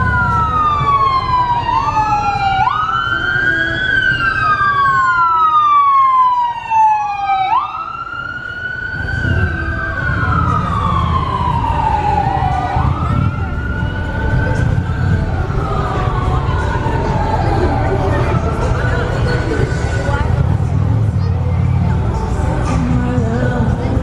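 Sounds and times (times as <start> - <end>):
emergency vehicle sirens wailing: 0.0 - 24.0
low traffic rumble: 0.0 - 24.0.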